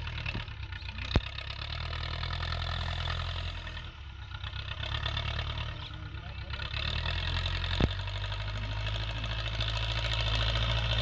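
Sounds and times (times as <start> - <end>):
tractor engine chugging: 0.0 - 11.0.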